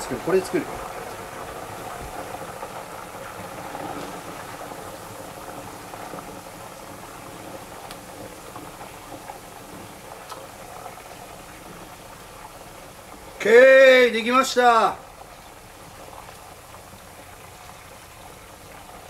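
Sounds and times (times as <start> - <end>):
faint crackles: 0.0 - 19.0
hot oil sizzling: 0.0 - 19.0.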